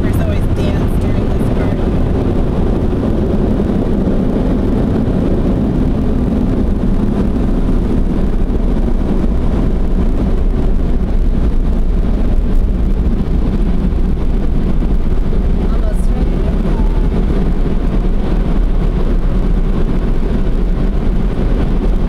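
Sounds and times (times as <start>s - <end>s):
car wash equipment rushing: 0.0s - 22.0s.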